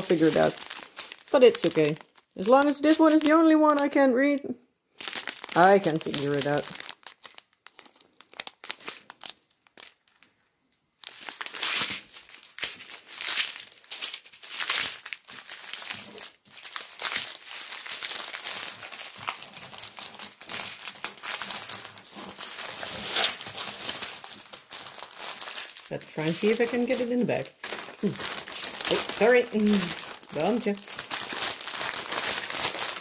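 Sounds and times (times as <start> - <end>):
plastic bags crinkling: 0.0 - 4.0, 4.9 - 10.4, 11.0 - 33.0.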